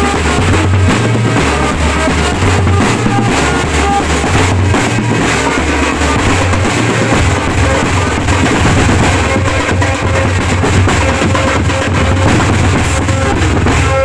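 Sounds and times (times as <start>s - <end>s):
heavy bass drum beat: 0.0s - 14.0s
snare drum: 0.0s - 14.0s.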